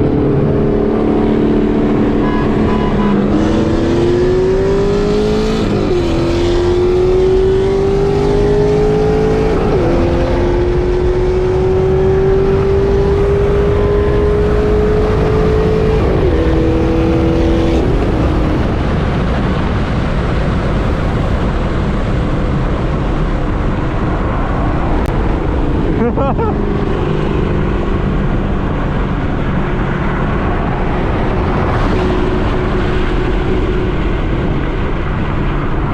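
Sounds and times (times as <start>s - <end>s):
car engine accelerating through gears: 0.0s - 20.0s, 23.0s - 35.9s
wind and road noise: 0.0s - 35.9s.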